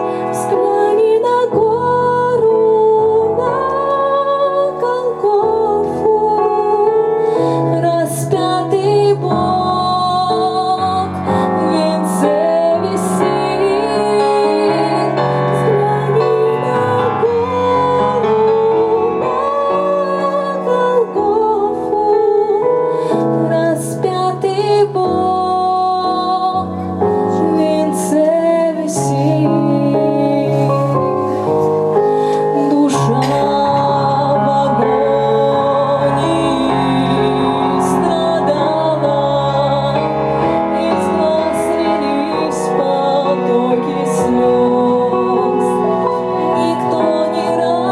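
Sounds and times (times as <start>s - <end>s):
piano accompaniment: 0.0s - 47.9s
woman singing with vibrato: 0.0s - 47.9s.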